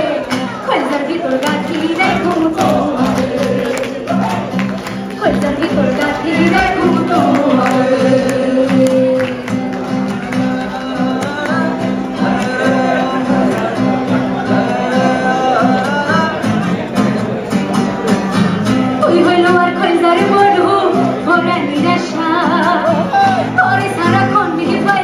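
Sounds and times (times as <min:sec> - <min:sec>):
person singing: 0:00.0 - 0:16.9, 0:18.9 - 0:25.0
acoustic guitar strumming: 0:00.0 - 0:25.0.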